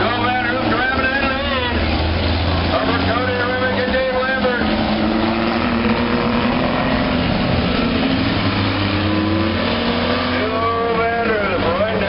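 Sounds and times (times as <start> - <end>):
car accelerating: 0.0 - 12.0
race car engines: 0.0 - 12.0.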